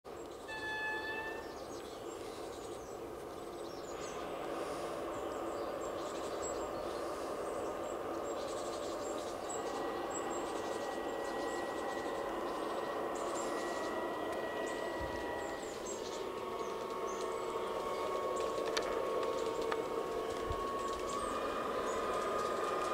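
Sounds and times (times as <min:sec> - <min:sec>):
birds chirping: 0:00.1 - 0:22.9
model locomotive mechanical hum: 0:00.1 - 0:22.9
thin steady whine: 0:00.1 - 0:22.9.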